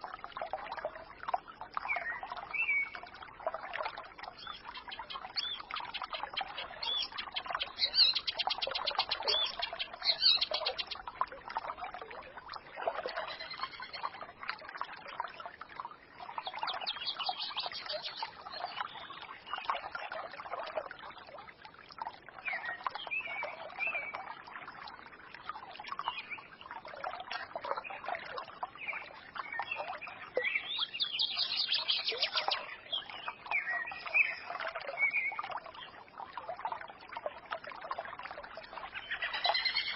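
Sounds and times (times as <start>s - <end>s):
forest stream trickling: 0.0s - 39.9s
songbirds chirping: 0.1s - 21.4s, 22.0s - 39.9s.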